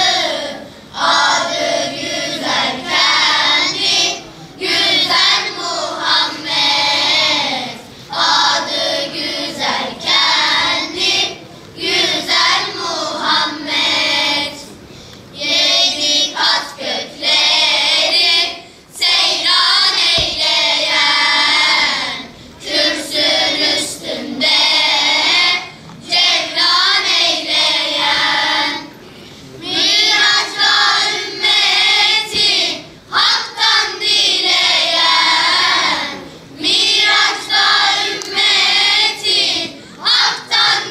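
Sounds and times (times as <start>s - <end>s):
children's choir singing: 0.0s - 40.9s.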